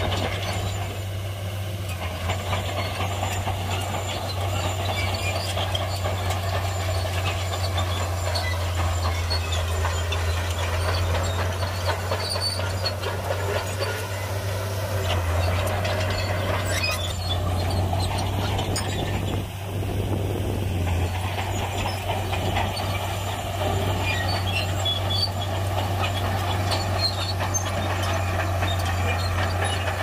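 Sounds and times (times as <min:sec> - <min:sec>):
diesel machinery engine hum: 0:00.0 - 0:30.0
metallic clatter and clanks: 0:00.0 - 0:30.0.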